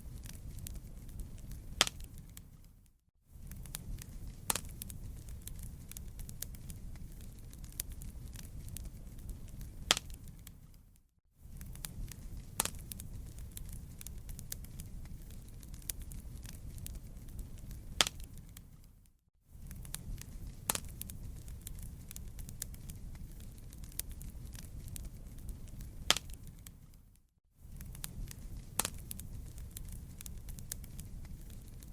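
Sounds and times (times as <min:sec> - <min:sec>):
campfire crackling: 0:00.0 - 0:02.8, 0:03.4 - 0:10.9, 0:11.5 - 0:31.9.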